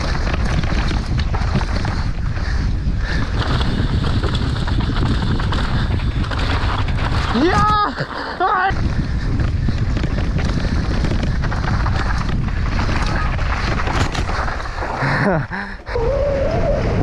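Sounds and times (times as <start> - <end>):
bike rattling down rough trail: 0.0 - 17.0
wind buffeting microphone: 0.0 - 17.0.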